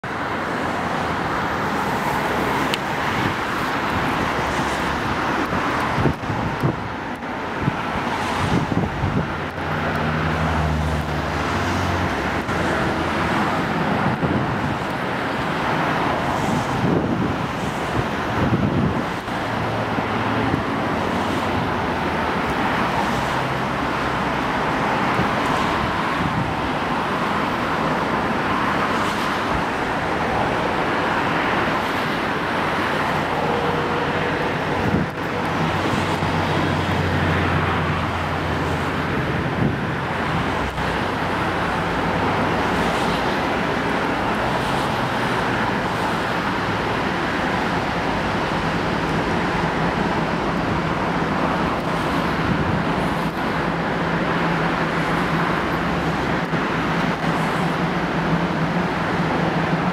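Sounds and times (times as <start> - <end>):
road traffic passing: 0.0 - 59.9
vehicle engine hum: 0.0 - 59.9.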